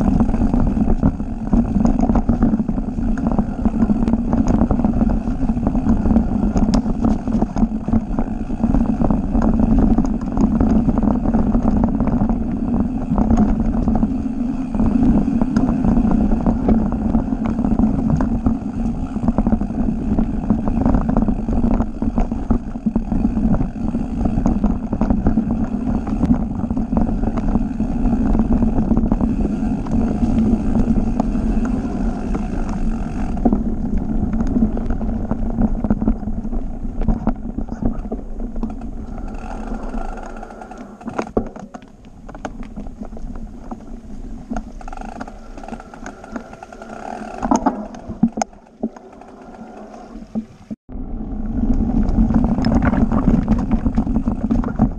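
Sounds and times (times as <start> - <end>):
bike rattling and knocking: 0.0 - 50.4, 51.4 - 54.9
bike tyres rumbling over dirt: 0.0 - 54.9.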